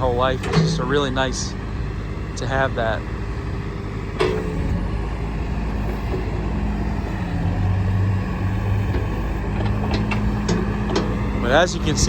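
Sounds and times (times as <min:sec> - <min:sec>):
diesel engine running: 0:00.0 - 0:12.0
hydraulics working: 0:00.0 - 0:12.0.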